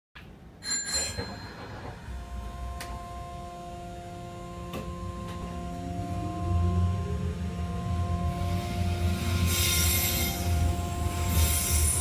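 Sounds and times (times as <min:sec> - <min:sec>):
train electronic hum: 0:00.4 - 0:12.0.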